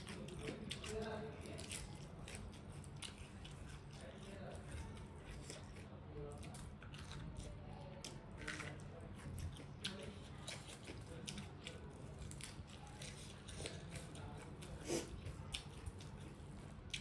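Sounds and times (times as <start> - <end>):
person chewing with smacks: 0.0 - 17.0.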